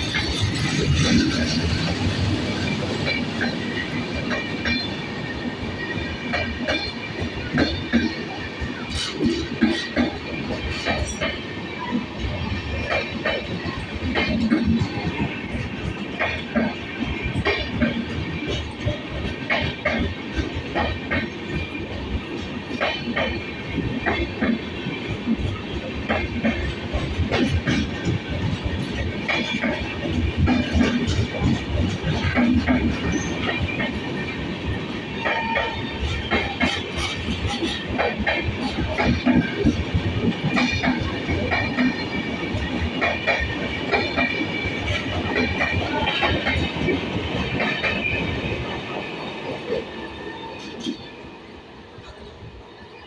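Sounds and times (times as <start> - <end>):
wheels clacking over rail joints: 0.0 - 51.1
train coaches rumbling: 0.0 - 53.0.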